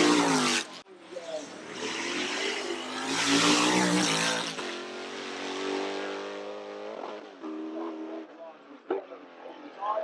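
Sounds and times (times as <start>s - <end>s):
racing car engine passing by: 0.0s - 8.3s.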